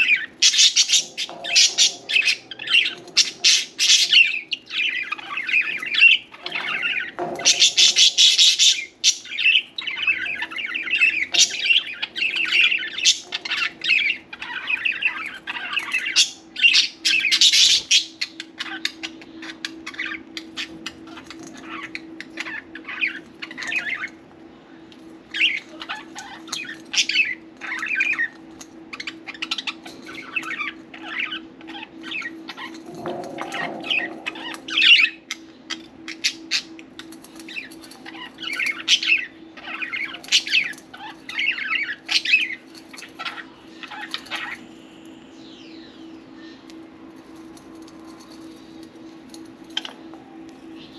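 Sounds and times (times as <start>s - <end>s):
budgies chirping and squawking: 0.0s - 24.2s, 25.3s - 44.6s.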